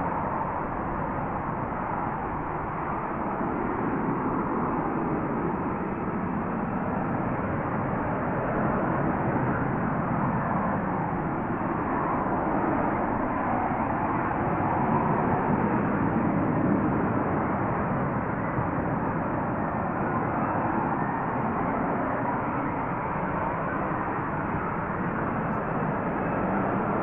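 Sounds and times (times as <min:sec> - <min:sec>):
jet engine noise: 0:00.0 - 0:27.0.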